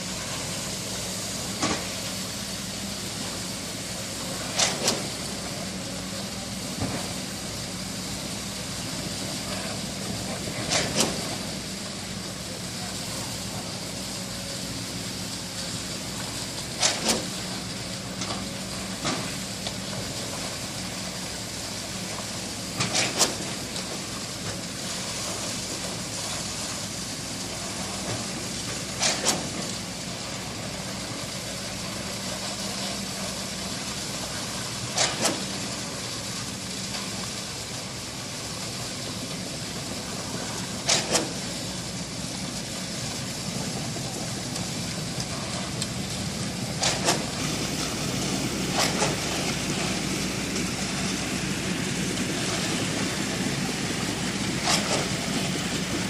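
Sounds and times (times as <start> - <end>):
machinery engine hum: 0.0 - 56.0.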